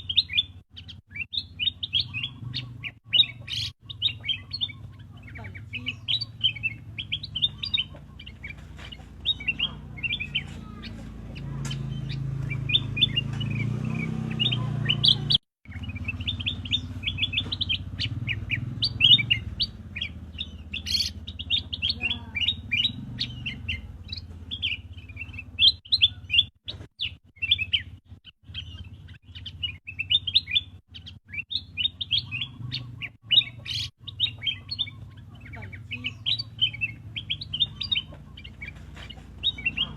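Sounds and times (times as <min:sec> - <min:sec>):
bird chirping high notes: 0:00.0 - 0:39.9.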